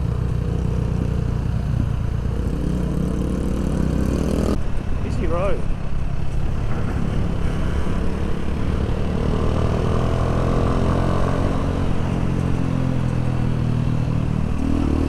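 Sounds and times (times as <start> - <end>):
motorcycle engine accelerating: 0.0 - 4.6, 6.4 - 15.0
wind rumble: 0.0 - 14.9.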